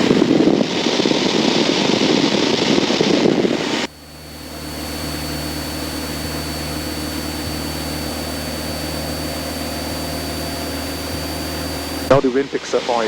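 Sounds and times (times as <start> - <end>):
light aircraft engine droning: 0.0 - 13.0
thin high whine: 0.0 - 13.0.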